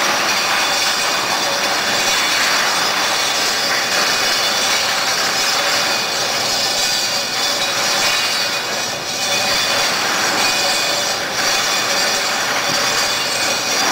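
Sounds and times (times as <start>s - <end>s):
industrial machinery whir and hiss: 0.0s - 13.9s.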